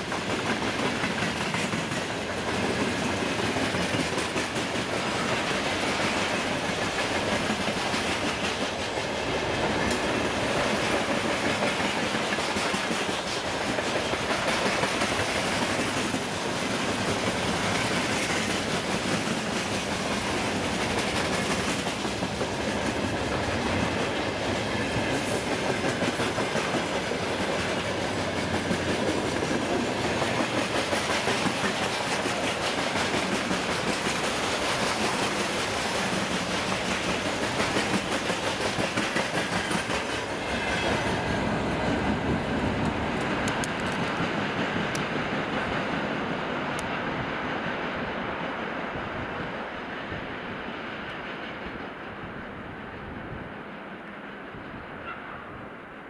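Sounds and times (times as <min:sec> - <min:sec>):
wheels clacking over rail joints: 0:00.0 - 0:47.2
freight train rumbling past: 0:00.0 - 0:56.0.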